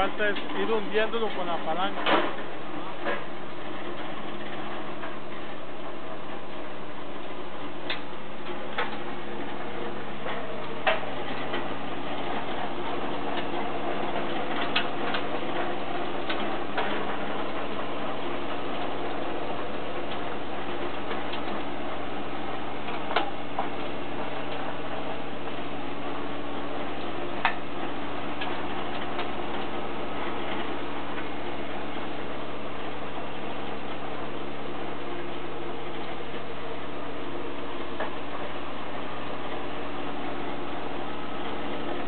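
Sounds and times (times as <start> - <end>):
rotary tiller working: 0.0 - 42.0
tractor diesel engine running: 0.0 - 42.0.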